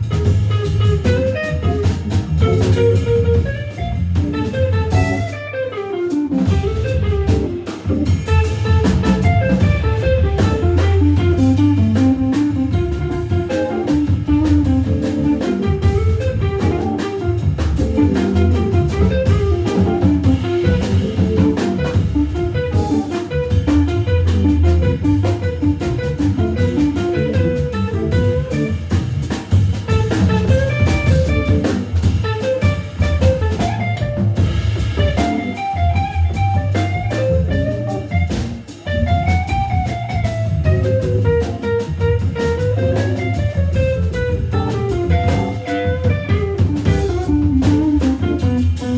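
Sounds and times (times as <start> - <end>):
drum kit groove: 0.0 - 48.9
guitar: 0.0 - 48.9.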